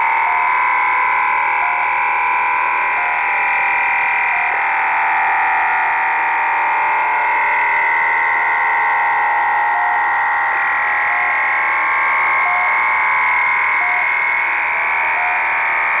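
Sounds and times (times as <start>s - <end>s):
cluster of steady radio tones: 0.0s - 16.0s.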